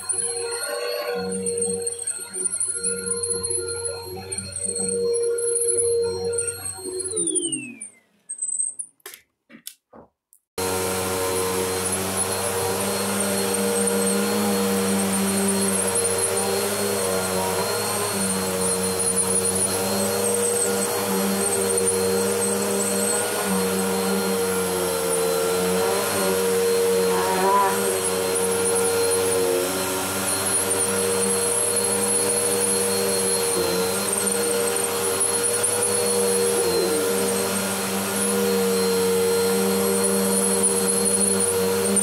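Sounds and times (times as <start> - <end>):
vacuum cleaner motor: 0.0 - 7.9, 10.6 - 42.0.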